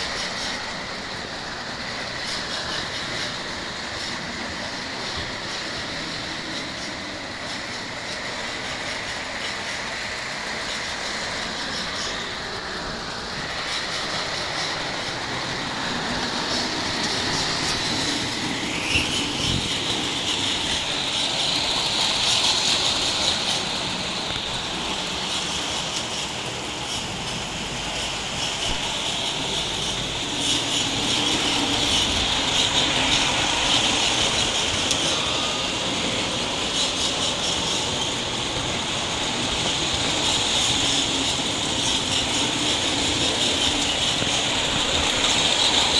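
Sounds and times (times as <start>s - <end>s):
model train wheels clattering: 0.0s - 45.9s.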